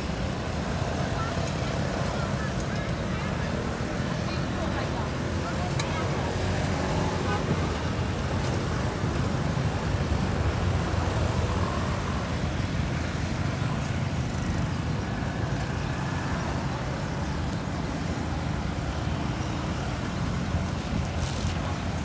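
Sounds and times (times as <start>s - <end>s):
motorbikes and cars on road: 0.0s - 22.0s.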